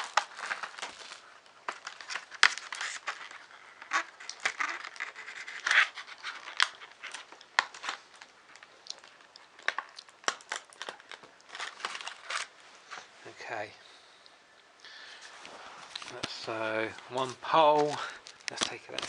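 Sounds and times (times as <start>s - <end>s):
plastic packaging crinkling: 0.0s - 13.7s, 15.3s - 19.0s.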